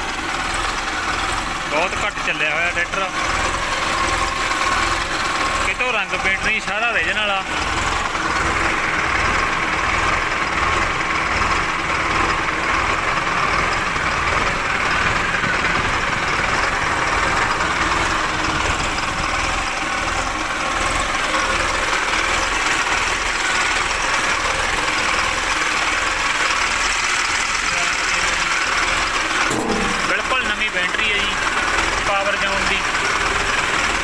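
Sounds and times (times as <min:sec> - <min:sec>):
tractor diesel engine idling: 0:00.0 - 0:34.0.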